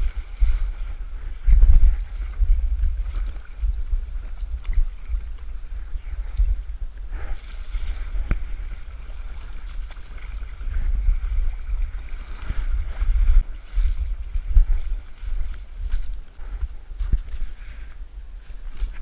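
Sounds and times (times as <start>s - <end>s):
shallow river rushing: 0.0s - 16.3s
wind buffeting microphone: 0.0s - 19.0s.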